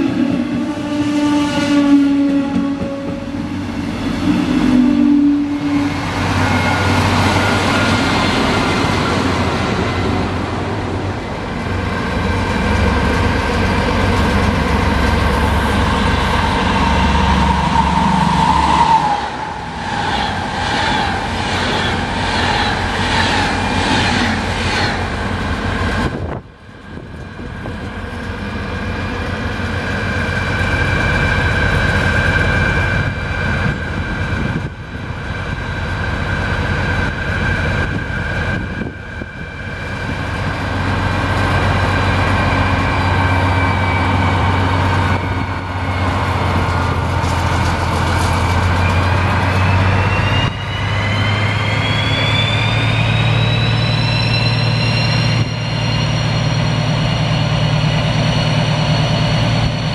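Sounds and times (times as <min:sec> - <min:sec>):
diesel locomotive engine: 0:00.0 - 0:59.9.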